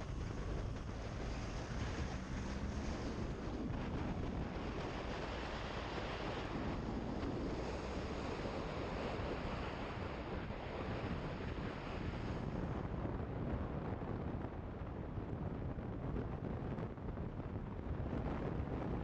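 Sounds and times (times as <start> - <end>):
motorcycle engine and road rumble: 0.0 - 19.0
wind rushing over microphone: 0.0 - 19.0.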